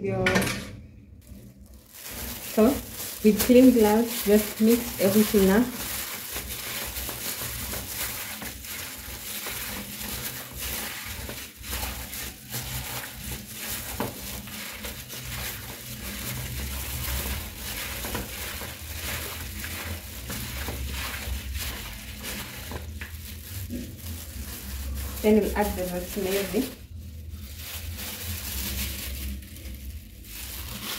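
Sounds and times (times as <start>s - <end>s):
plastic gloves crinkling: 0.8s - 30.9s
oiled meat squishing: 1.2s - 30.9s.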